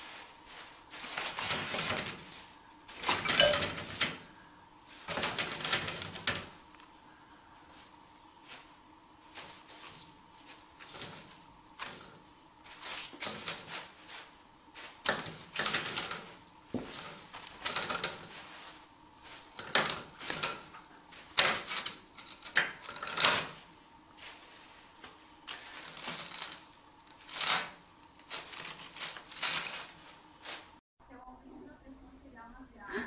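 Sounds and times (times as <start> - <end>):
toilet paper rustling: 0.0 - 30.8.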